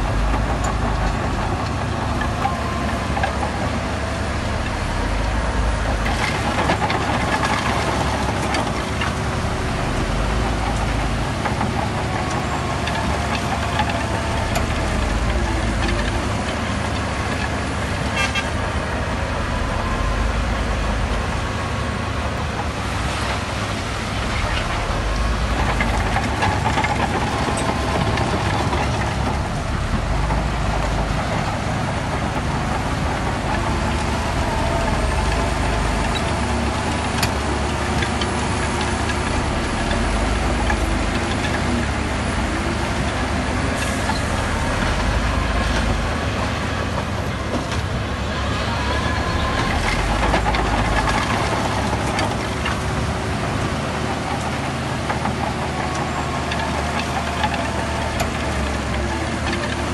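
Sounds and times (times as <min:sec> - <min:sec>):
heavy diesel engines running: 0:00.0 - 0:59.9.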